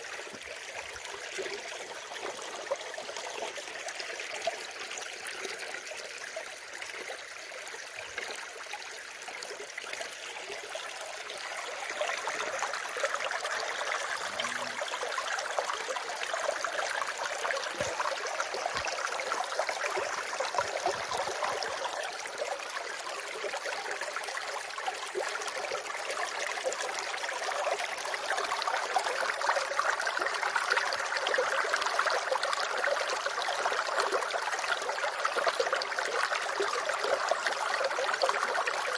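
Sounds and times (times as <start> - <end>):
running water trickling: 0.0 - 38.9.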